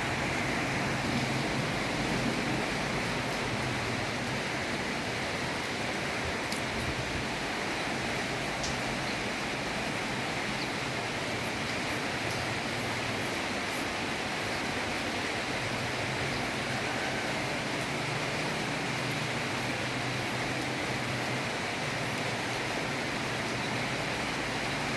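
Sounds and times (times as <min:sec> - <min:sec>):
rain rushing: 0:00.0 - 0:24.9.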